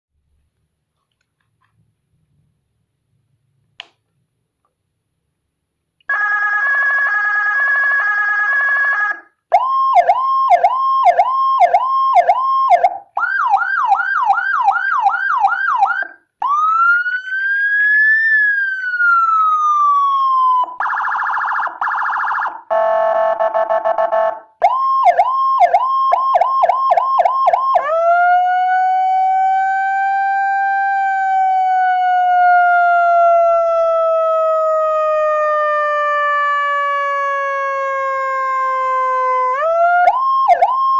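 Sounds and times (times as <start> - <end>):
electronic siren: 6.1 - 40.9.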